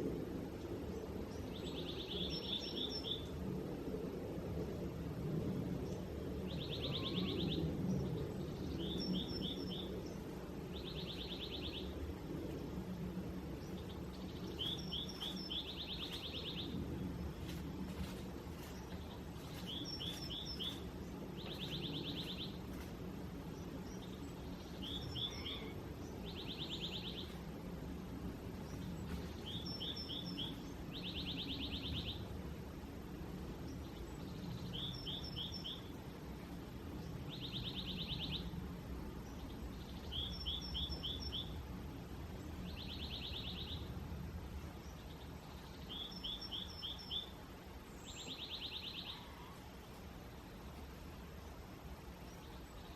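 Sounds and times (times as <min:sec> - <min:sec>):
steady low rumble: 0:00.0 - 0:52.9
songbird singing: 0:00.8 - 0:03.5, 0:05.8 - 0:52.9.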